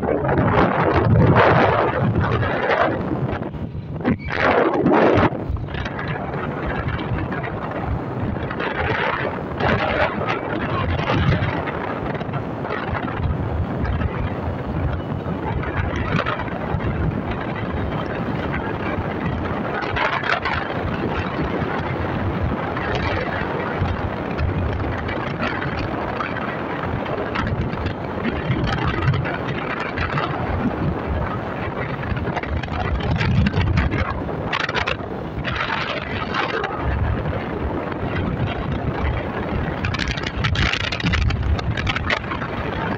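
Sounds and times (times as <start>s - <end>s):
road noise: 0.0s - 42.9s
wind buffeting microphone: 0.0s - 42.9s.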